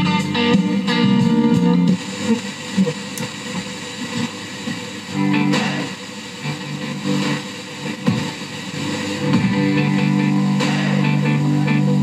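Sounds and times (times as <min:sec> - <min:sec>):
guitar music from a radio: 0:00.0 - 0:12.0.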